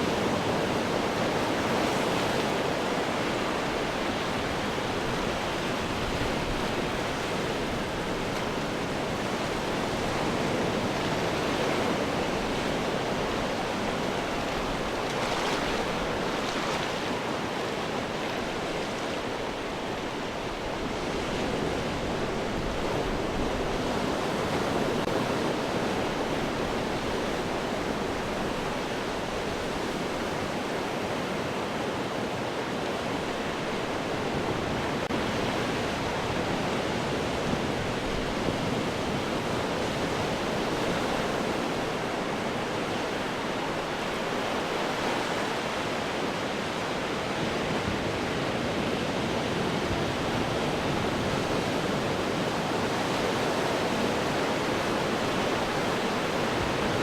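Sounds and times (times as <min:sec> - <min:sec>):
ocean waves breaking on rocks: 0:00.0 - 0:57.0.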